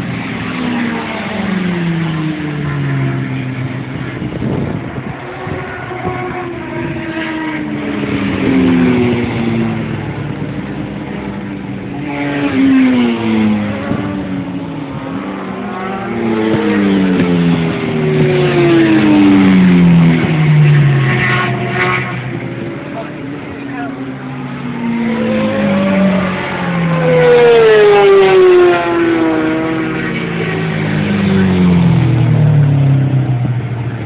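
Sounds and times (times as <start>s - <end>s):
sport motorcycles passing: 0.0s - 34.0s.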